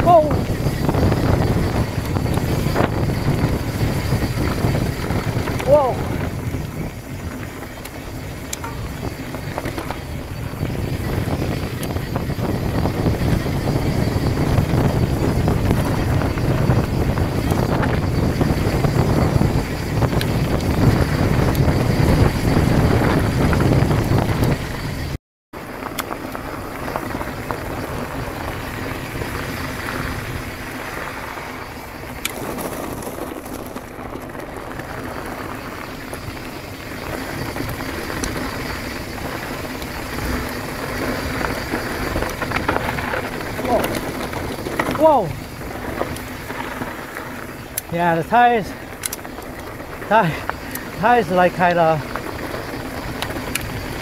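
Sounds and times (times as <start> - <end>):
bike rattling: 0.0 - 54.0
bike tyres rolling on dirt: 0.0 - 54.0
wind on microphone: 0.0 - 54.0.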